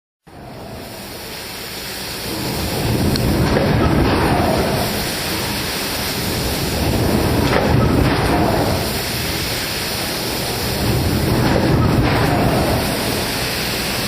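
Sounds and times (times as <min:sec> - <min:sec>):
machinery and blowers roaring: 0:00.3 - 0:14.0.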